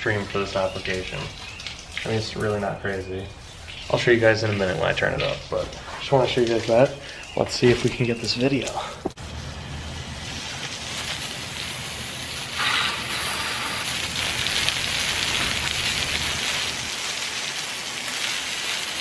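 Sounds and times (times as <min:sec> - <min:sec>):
water spray hissing and splashing: 0:00.0 - 0:19.0.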